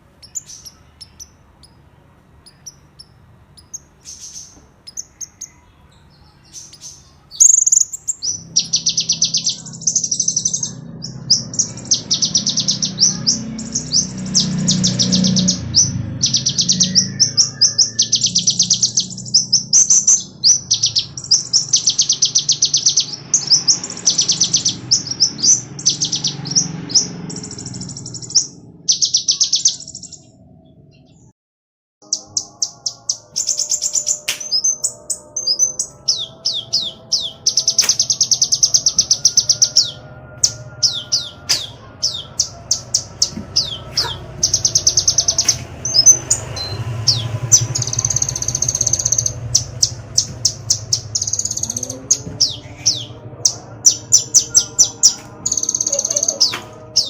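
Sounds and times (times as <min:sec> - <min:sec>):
bird singing high-pitched trills: 0:00.0 - 0:30.3, 0:32.0 - 0:57.0.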